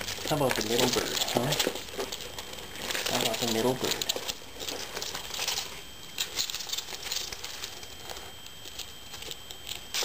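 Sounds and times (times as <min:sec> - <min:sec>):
small clicks and scratchy ticks: 0:00.0 - 0:10.0.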